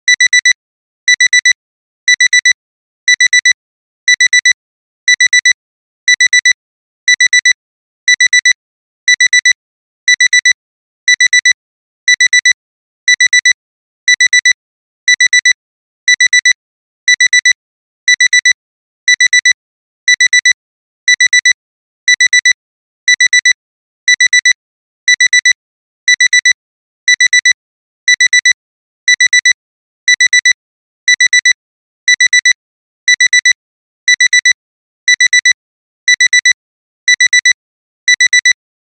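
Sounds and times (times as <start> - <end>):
digital alarm clock beeping: 0.1 - 0.5, 1.1 - 1.5, 2.1 - 38.6.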